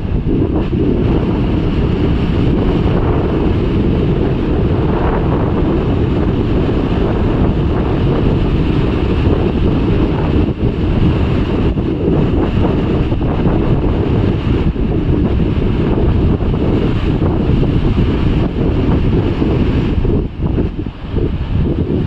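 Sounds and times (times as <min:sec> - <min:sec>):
sea surf breaking on rocks: 0:00.0 - 0:22.0
wind buffeting microphone: 0:00.0 - 0:22.0.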